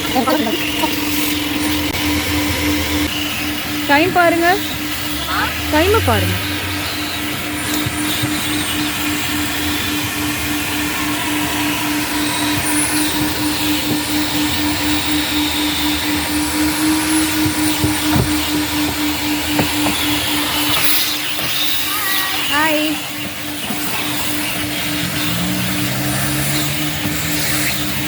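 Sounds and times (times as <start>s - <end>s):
vacuum motor humming: 0.0s - 28.0s.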